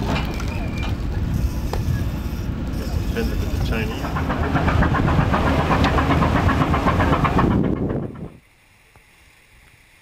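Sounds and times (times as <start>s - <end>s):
ship engine running: 0.0s - 8.5s.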